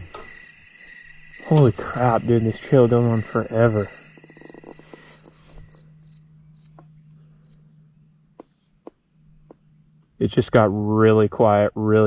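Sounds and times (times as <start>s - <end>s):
crickets chirping: 0.0s - 11.7s.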